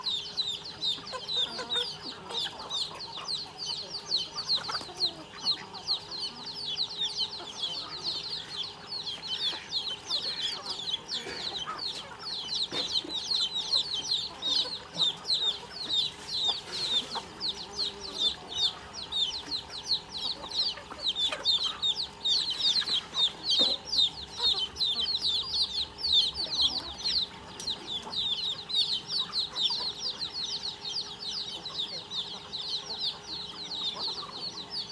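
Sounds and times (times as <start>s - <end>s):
chickens peeping: 0.0s - 34.9s.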